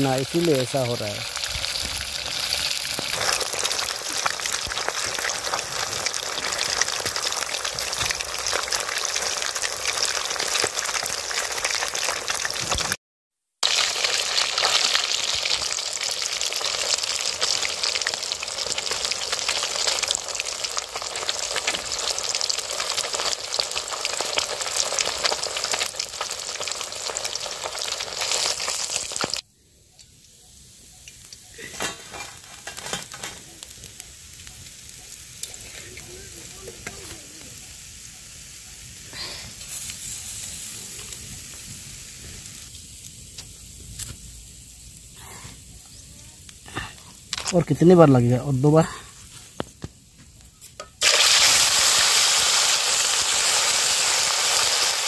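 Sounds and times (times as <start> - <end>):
fish sizzling in hot oil: 0.0 - 13.0, 13.6 - 29.5, 30.3 - 55.0.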